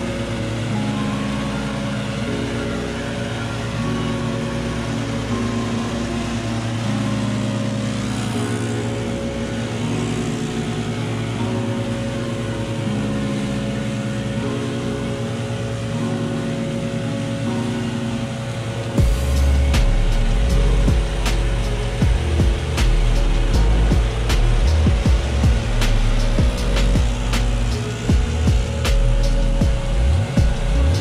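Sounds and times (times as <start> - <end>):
background music: 0.0 - 31.0
mower engine running: 0.0 - 31.0.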